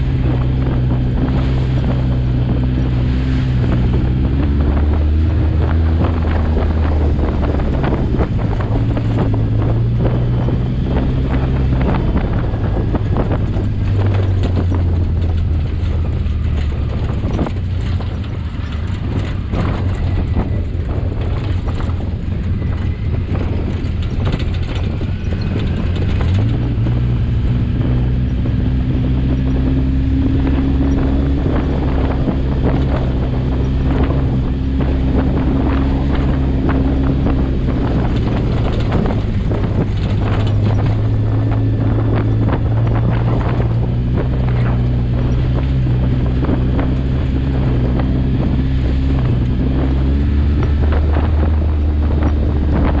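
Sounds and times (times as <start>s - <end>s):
off-road vehicle engine running: 0.0s - 53.0s
wind on microphone: 0.0s - 53.0s.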